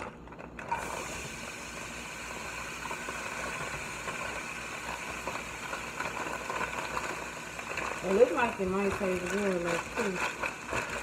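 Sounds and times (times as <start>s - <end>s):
food sizzling in a skillet: 0.7s - 11.0s.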